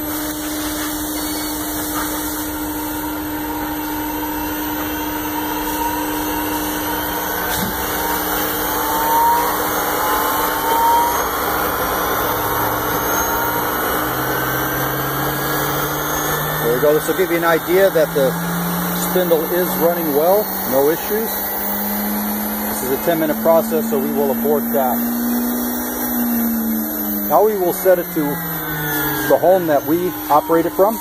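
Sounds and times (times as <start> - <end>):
cnc router spindle whining: 0.0 - 31.0.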